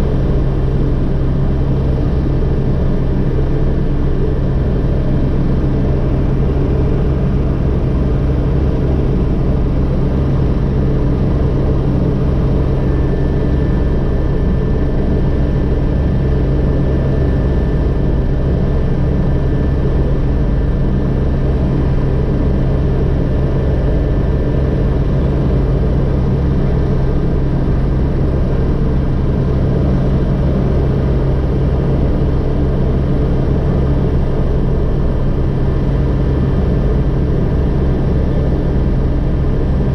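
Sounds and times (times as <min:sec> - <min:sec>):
helicopter engine drone: 0:00.0 - 0:39.9.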